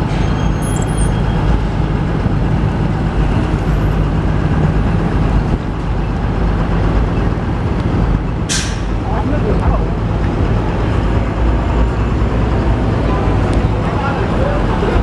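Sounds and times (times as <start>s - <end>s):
bus engine humming: 0.0s - 15.0s
street traffic rushing: 0.0s - 15.0s.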